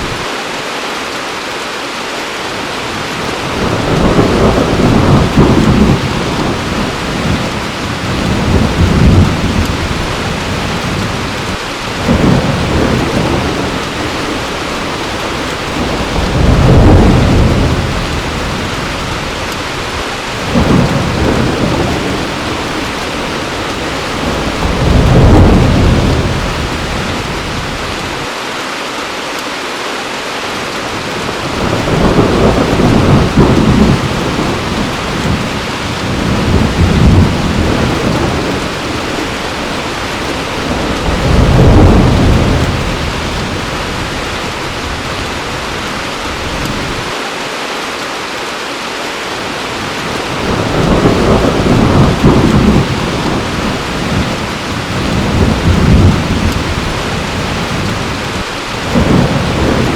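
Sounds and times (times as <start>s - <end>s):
heavy rain falling: 0.0s - 59.9s
thunder rumbling: 2.9s - 28.3s, 30.9s - 47.2s, 49.8s - 59.9s.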